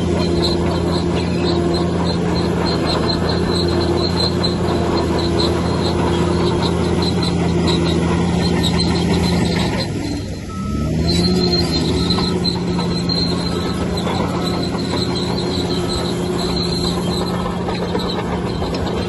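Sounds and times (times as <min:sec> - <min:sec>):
bulldozer diesel engine running: 0:00.0 - 0:19.0
crawler tracks squeaking: 0:00.0 - 0:19.0.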